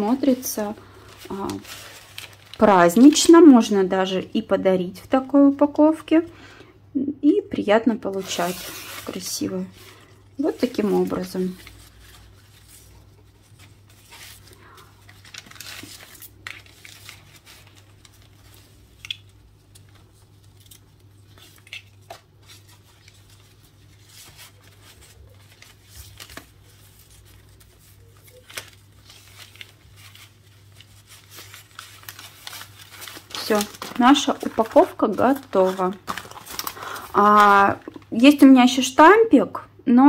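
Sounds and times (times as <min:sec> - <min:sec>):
paper crinkling: 0:00.0 - 0:04.2, 0:08.0 - 0:38.5.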